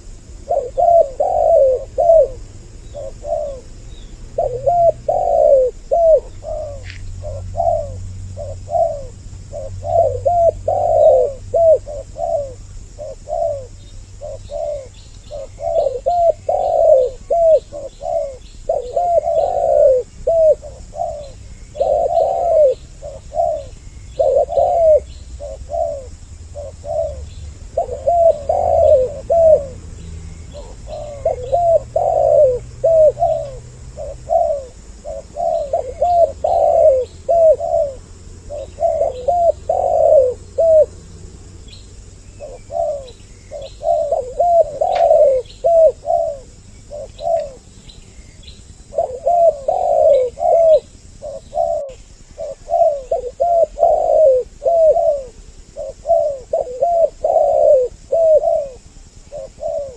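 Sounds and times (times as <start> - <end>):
doves cooing: 0.0 - 59.9
small birds chirping: 0.0 - 59.9.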